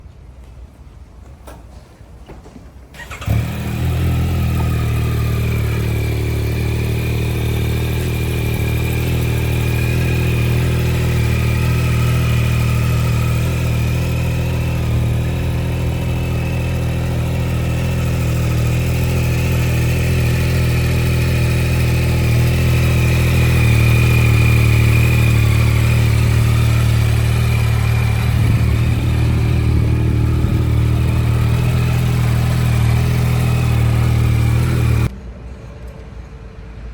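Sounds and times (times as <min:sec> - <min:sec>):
motorcycle engine starting and idling: 0:02.8 - 0:35.1.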